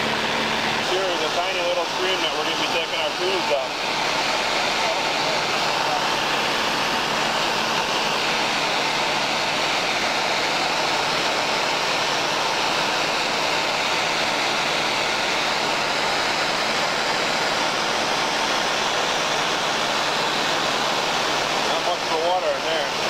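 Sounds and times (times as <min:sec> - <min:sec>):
propeller plane cabin drone: 0:00.0 - 0:22.0.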